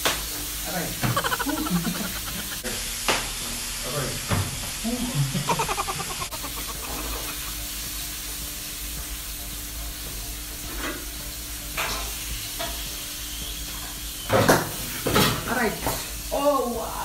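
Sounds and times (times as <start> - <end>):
lobster sizzling in oil: 0.0 - 17.0.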